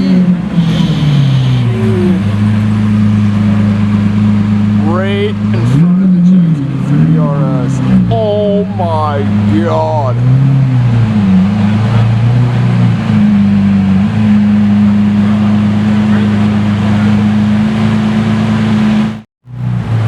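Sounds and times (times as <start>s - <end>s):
sports car engine running: 0.0s - 20.0s.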